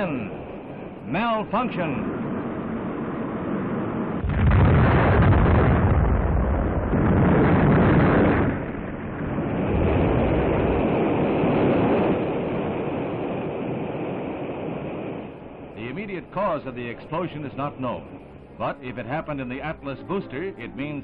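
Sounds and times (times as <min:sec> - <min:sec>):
rocket explosion rumbling blast: 0:00.0 - 0:19.3.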